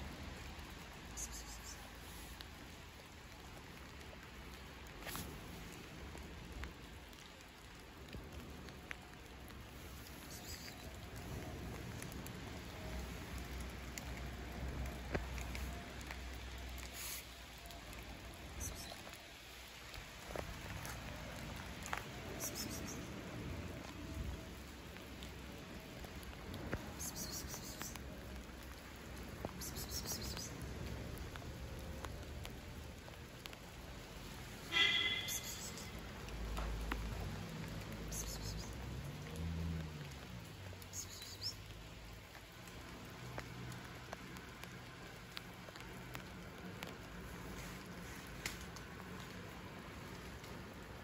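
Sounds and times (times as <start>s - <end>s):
light rain pattering: 0.0s - 51.0s.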